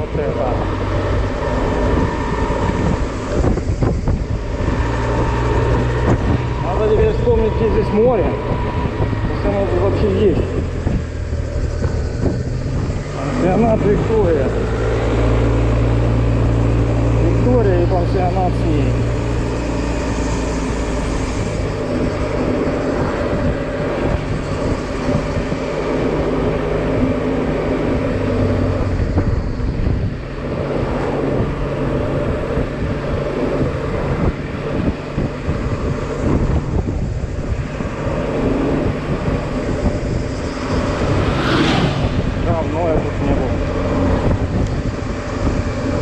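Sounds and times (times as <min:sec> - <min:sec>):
wind noise on microphone: 0:00.0 - 0:46.0.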